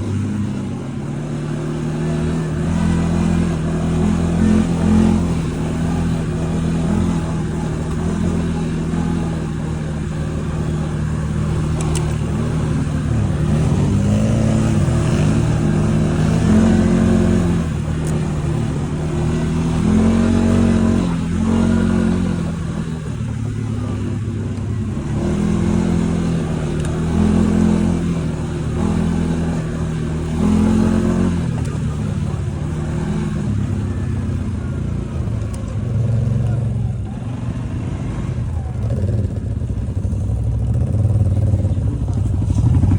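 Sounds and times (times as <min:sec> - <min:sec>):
atv engine revving: 0:00.0 - 0:42.9.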